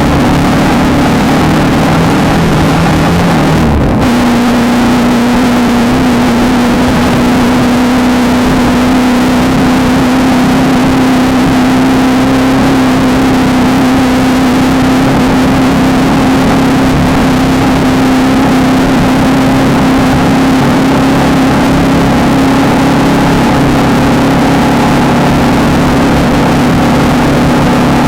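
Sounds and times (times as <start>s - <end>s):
constant rushing noise: 0.0s - 28.0s
race car engine running hard: 0.0s - 28.0s.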